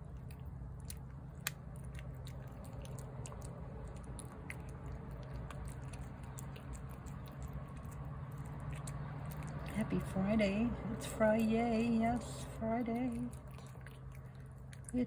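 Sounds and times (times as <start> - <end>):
cat chewing wet food: 0.0 - 15.0.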